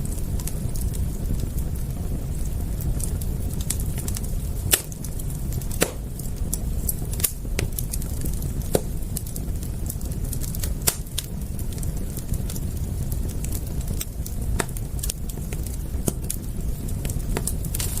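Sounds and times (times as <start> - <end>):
low fire rumble: 0.0 - 18.0
wood fire crackling: 0.0 - 18.0.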